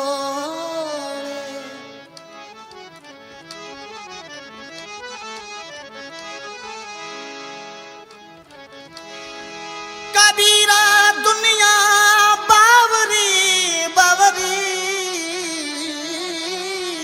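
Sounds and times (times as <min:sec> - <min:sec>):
harmonium melody: 0:00.0 - 0:17.0.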